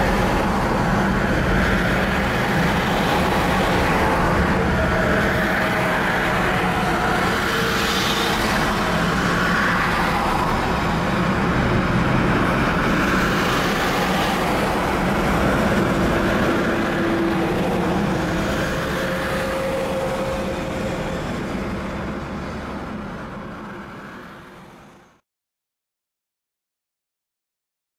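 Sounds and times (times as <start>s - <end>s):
low engine hum: 0.0s - 24.2s.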